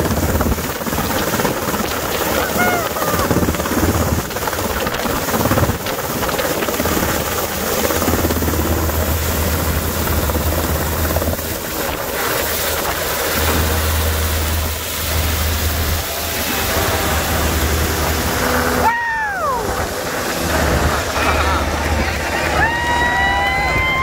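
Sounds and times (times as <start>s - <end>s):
helicopter hovering overhead: 0.0s - 24.0s.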